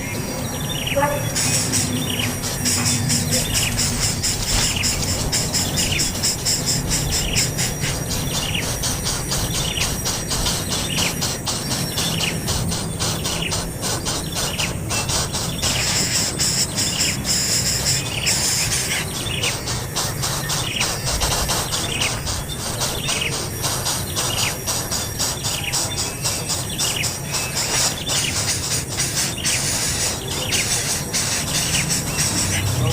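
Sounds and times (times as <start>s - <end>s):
bird chirping: 0.0s - 32.9s
insect-like buzzing: 0.0s - 32.9s.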